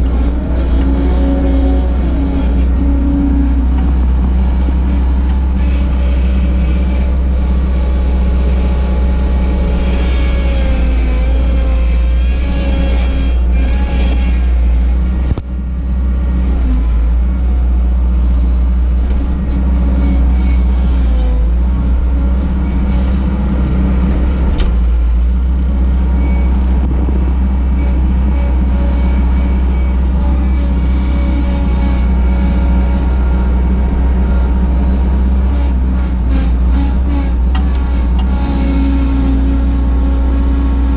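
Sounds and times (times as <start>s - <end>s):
skid steer engine droning: 0.0s - 40.9s.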